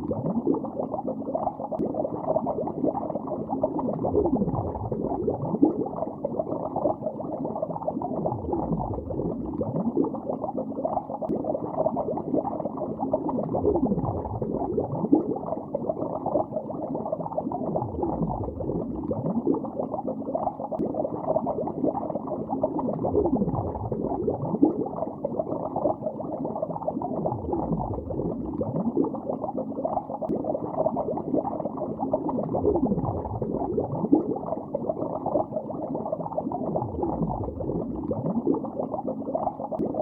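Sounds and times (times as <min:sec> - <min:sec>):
muffled underwater bubbling: 0:00.0 - 0:40.0.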